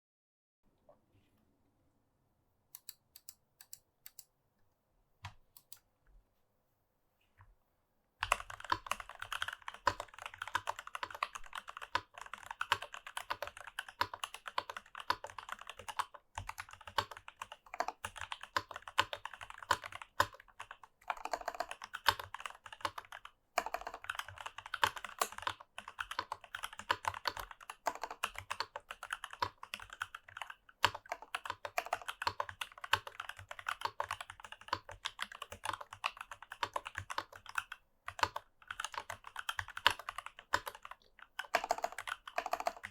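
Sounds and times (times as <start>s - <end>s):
mechanical keyboard typing: 8.2s - 42.9s.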